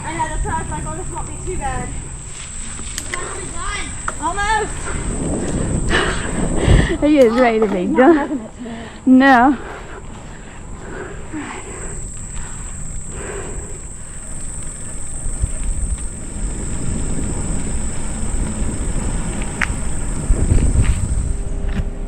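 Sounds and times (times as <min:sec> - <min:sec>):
insects buzzing: 0:00.0 - 0:22.0
low rumbling on microphone: 0:00.0 - 0:22.0.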